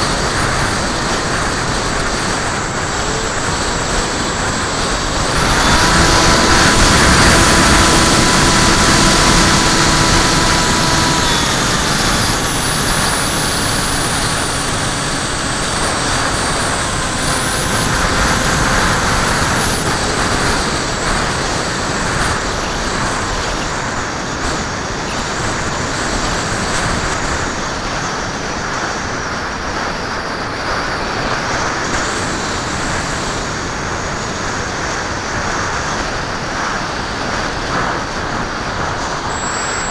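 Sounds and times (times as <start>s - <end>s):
model plane motor whining: 0.0s - 39.9s
wind rush: 0.0s - 39.9s.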